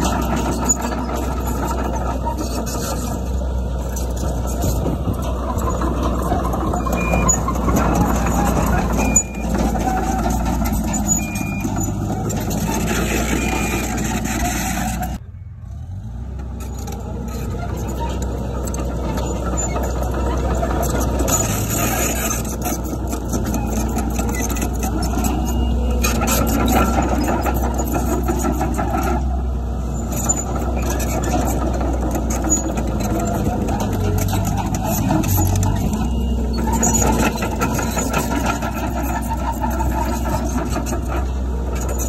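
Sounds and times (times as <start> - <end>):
diesel engine drone: 0.0 - 42.0.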